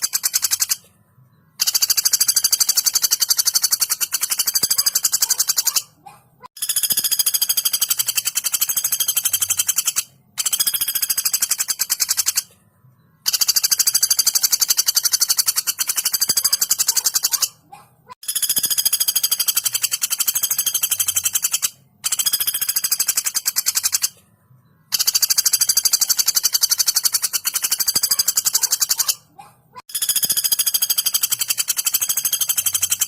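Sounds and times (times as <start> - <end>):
woodpecker rattling trills: 0.0 - 0.9, 1.5 - 12.6, 13.2 - 24.2, 24.9 - 33.0.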